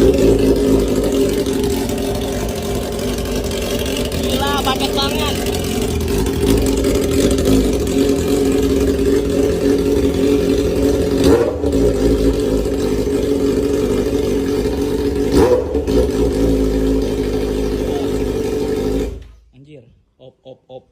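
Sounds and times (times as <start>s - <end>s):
motorcycle engine idling: 0.0s - 19.4s
motorcycle throttle blips: 0.0s - 19.4s.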